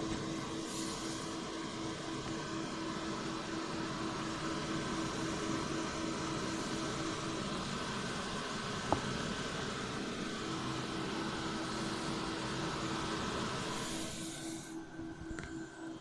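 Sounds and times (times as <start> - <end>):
cooling fans running: 0.0 - 16.0.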